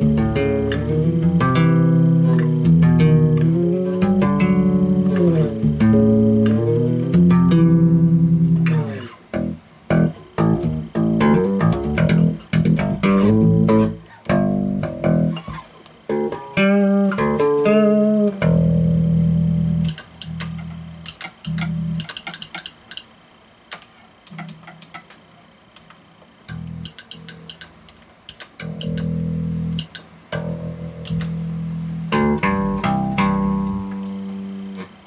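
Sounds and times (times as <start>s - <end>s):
electric bass finger-plucked: 0.0s - 22.9s, 24.3s - 25.2s, 26.5s - 35.0s
bass string clicks: 0.0s - 23.1s, 23.7s - 25.2s, 25.8s - 35.0s.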